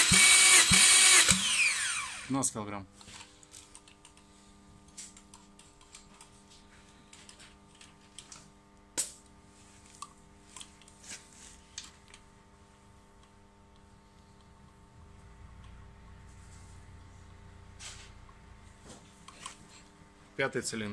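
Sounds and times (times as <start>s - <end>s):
low workshop hum: 0.0s - 20.9s.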